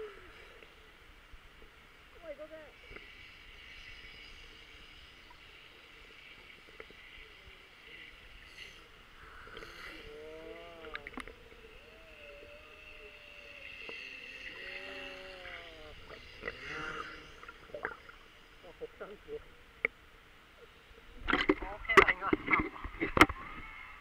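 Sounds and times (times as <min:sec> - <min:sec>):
muffled underwater hiss: 0:00.0 - 0:24.0.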